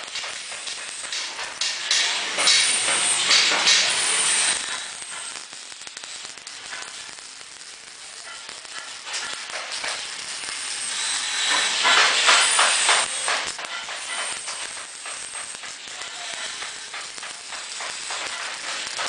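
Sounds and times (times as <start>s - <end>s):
welding arc crackling: 0.0s - 19.0s.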